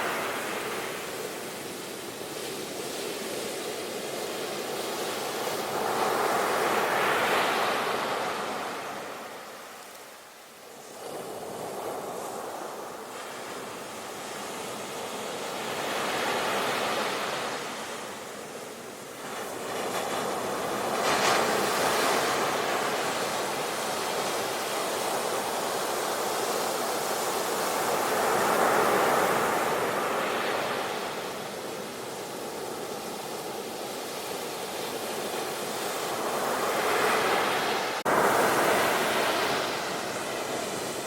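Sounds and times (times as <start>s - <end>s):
sea waves breaking on shore: 0.0s - 41.0s.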